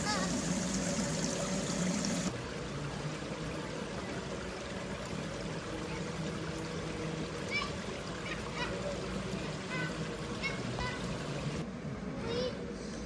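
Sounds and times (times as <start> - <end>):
fountain water splashing: 0.0 - 11.6.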